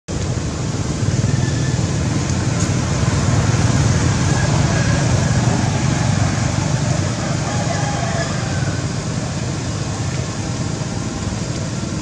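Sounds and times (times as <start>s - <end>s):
low outdoor rumble: 0.1s - 12.0s.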